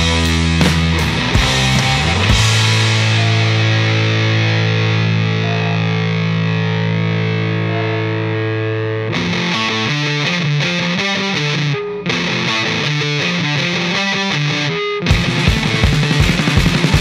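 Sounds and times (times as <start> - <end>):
background music: 0.0 - 14.5.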